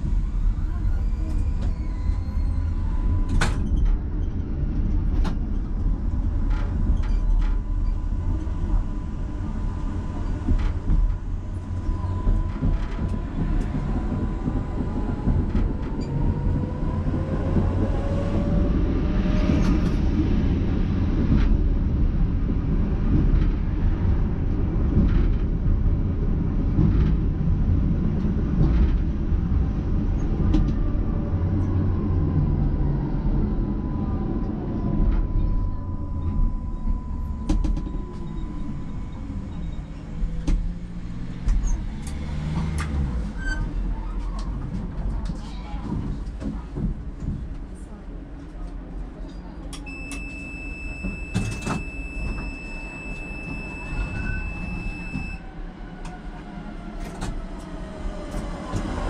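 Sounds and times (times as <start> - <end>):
tram rumbling along track: 0.0 - 59.0.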